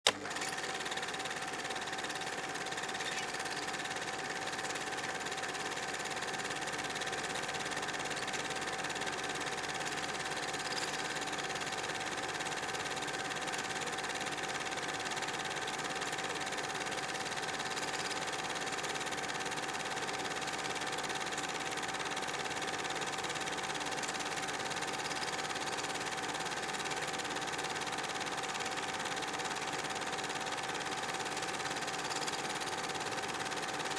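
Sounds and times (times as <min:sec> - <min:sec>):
film projector running: 0:00.1 - 0:33.9.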